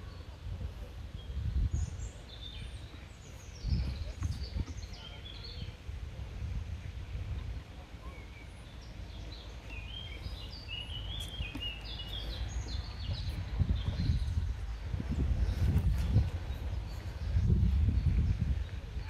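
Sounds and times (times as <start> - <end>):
songbird chirping: 0.0 - 6.0, 6.7 - 19.0.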